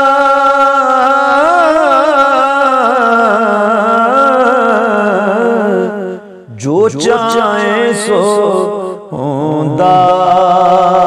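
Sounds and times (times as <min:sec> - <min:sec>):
man singing a long held note: 0:00.0 - 0:11.0.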